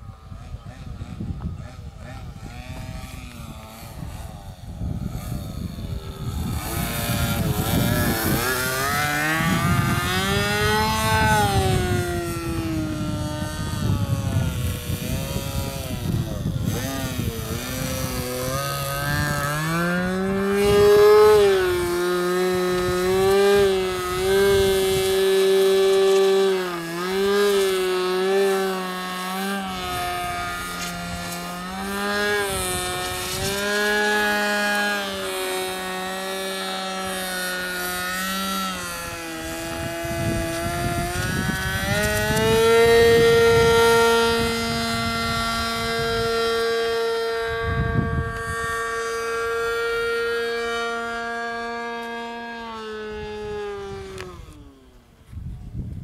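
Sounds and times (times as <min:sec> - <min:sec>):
model plane engine buzzing: 0:00.0 - 0:56.0.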